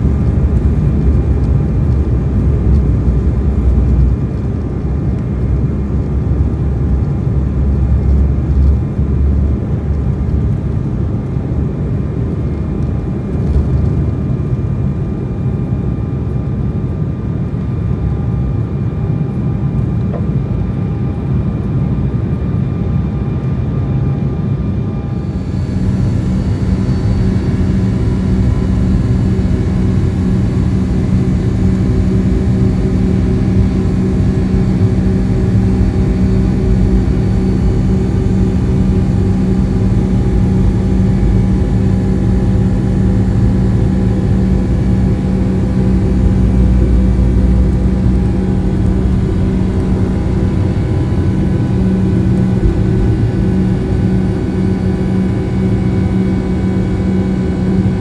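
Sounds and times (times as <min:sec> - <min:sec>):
airliner cabin engine rumble: 0:00.0 - 0:58.0
high engine whine: 0:00.0 - 0:58.0.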